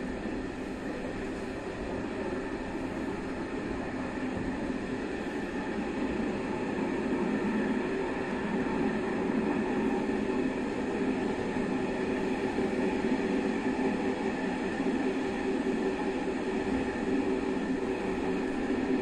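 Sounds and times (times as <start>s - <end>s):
steady train hum: 0.0s - 19.0s
train wheels rumbling on rail: 0.0s - 19.0s.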